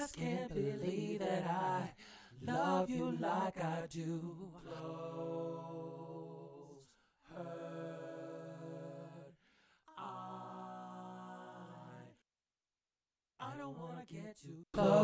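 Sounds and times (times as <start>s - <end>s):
wordless sung vocal notes: 0.0s - 12.2s, 13.4s - 15.0s.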